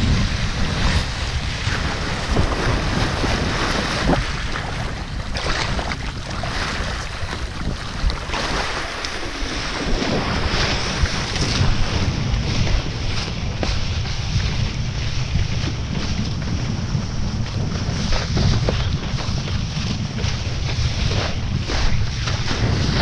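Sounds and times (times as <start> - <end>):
water rushing under board: 0.0 - 23.0
wind buffeting microphone: 0.0 - 23.0.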